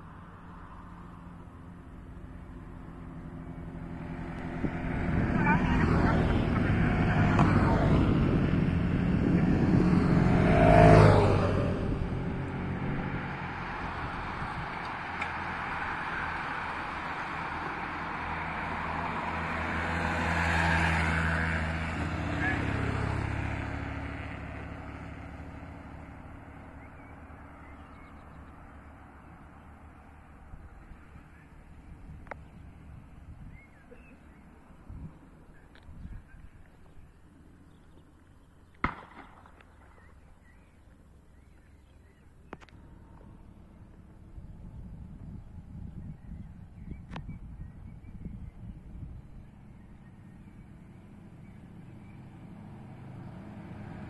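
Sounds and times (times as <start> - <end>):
cars driving past: 0.0 - 54.0
motorcycle passing: 0.0 - 54.0
tyre noise on road: 0.0 - 54.0.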